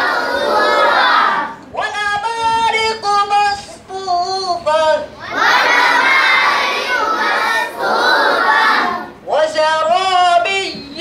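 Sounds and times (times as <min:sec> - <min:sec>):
boys reciting in unison: 0:00.0 - 0:11.0.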